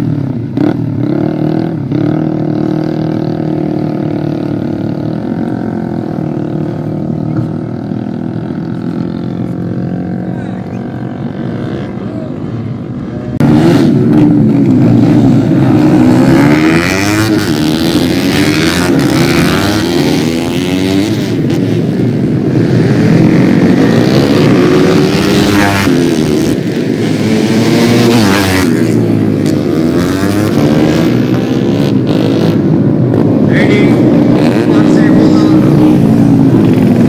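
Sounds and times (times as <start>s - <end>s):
racing motorcycles revving: 0.0s - 37.0s.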